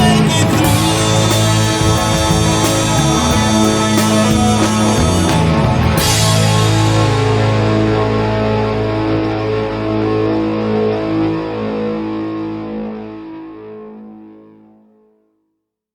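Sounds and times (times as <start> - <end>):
low bass note: 0.0 - 13.4
distorted electric guitar chord: 0.0 - 14.7.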